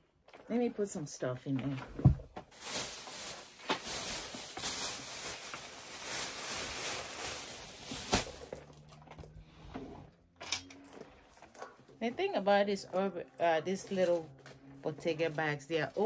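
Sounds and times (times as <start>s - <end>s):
rustling and handling noise: 0.0s - 16.0s.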